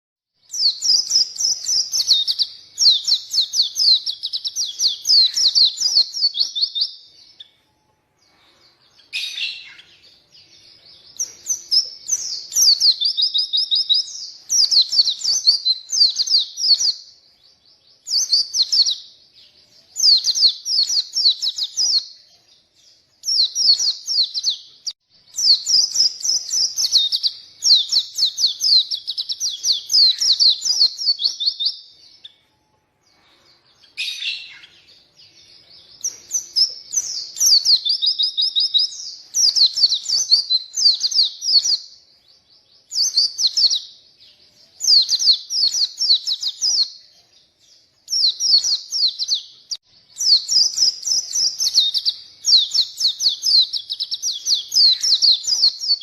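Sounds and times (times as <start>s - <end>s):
bird singing high twittering phrases: 0.4s - 56.0s.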